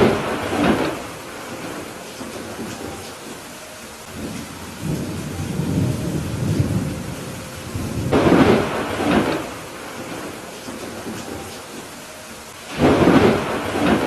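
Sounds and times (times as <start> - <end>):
rolling thunder: 0.0 - 2.8, 4.1 - 11.3, 12.7 - 14.0
rain hissing: 0.0 - 14.0.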